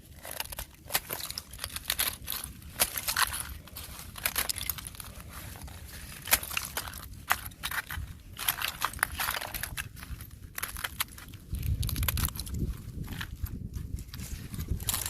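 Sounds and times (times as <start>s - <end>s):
ice crunching and crackling: 0.0s - 15.0s.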